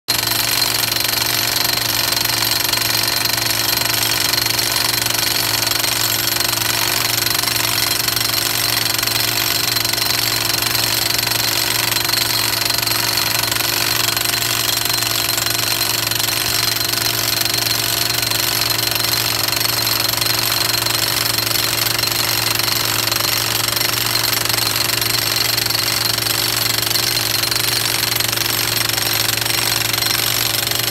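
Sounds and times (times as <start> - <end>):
jackhammer hammering rapidly: 0.1 - 30.9.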